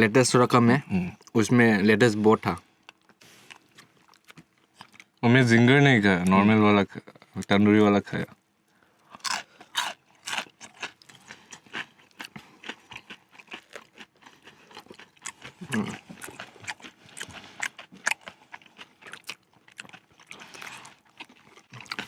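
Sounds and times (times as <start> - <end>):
chewing and crunching: 2.7 - 7.6, 8.2 - 22.0.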